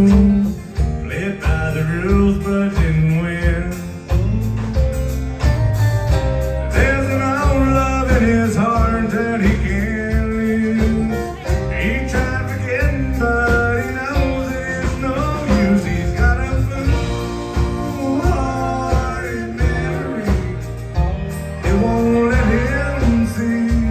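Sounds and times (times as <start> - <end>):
acoustic guitar: 0.0 - 23.9
drums: 0.0 - 23.9
electric guitars: 0.0 - 23.9.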